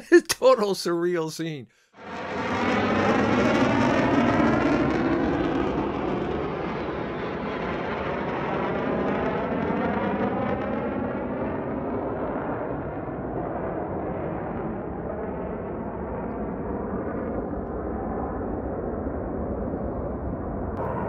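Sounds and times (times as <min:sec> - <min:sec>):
low-flying jet aircraft roaring past: 0:02.0 - 0:21.0.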